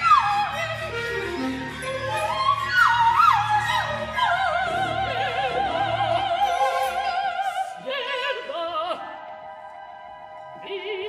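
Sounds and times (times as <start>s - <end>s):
low orchestral accompaniment: 0.0s - 11.0s
operatic soprano singing: 0.0s - 11.0s.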